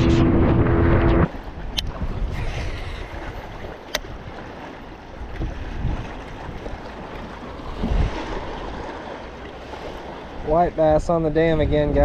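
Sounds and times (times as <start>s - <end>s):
wind rumbling on microphone: 0.0s - 9.1s, 10.3s - 12.0s
choppy water around boat: 0.0s - 12.0s.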